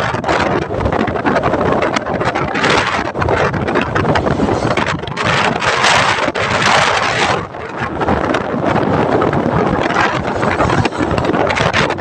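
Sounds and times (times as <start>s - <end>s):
vehicle and road noise: 0.0s - 12.0s
wind buffeting microphone: 0.0s - 12.0s.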